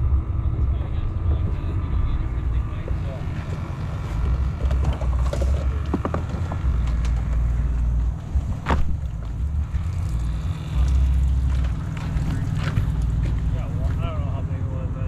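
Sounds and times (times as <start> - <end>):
wind buffeting microphone: 0.0 - 14.2
outboard motor running: 0.0 - 15.0.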